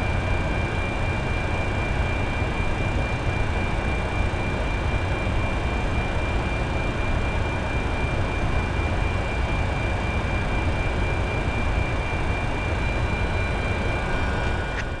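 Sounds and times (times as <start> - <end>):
aircraft cockpit rumble and hiss: 0.0 - 15.0.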